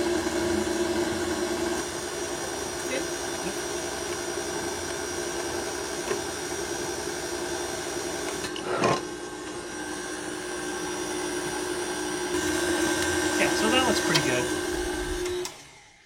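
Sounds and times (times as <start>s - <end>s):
electric mixer running: 0.0s - 16.0s.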